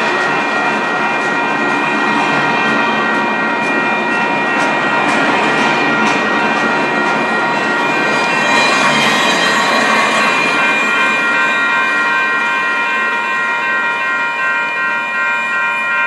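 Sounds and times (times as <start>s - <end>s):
steel wheels rumbling on rail: 0.0s - 16.0s
high ringing tones: 0.4s - 16.0s.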